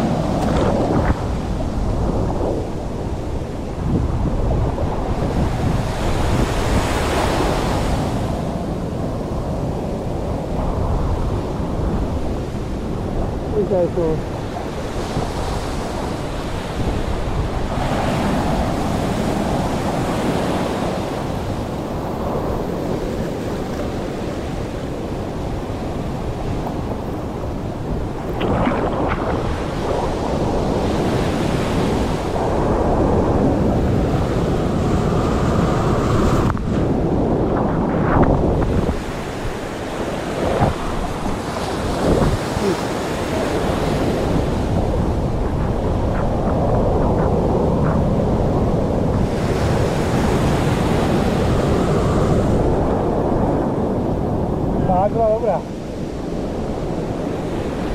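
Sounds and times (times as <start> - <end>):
surf washing and churning: 0.0 - 57.9
wind buffeting microphone: 0.0 - 57.9.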